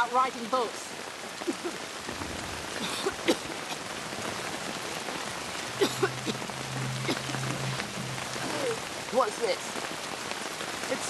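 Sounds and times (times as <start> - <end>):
rain falling: 0.0 - 11.0
raindrops plinking and splashing: 0.0 - 11.0.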